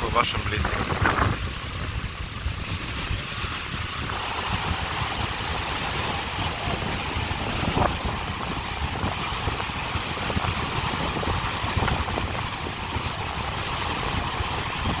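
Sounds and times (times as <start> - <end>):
surf washing onto shore: 0.0 - 15.0
wind buffeting microphone: 0.0 - 15.0.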